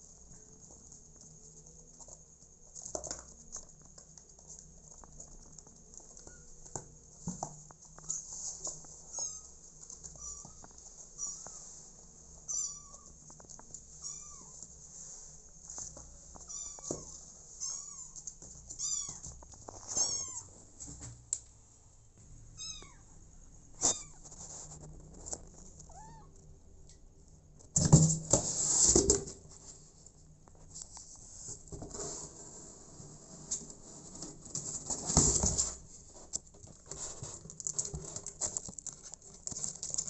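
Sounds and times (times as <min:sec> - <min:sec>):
scraping and rustling: 0:00.0 - 0:21.2, 0:23.8 - 0:25.9, 0:27.8 - 0:40.0.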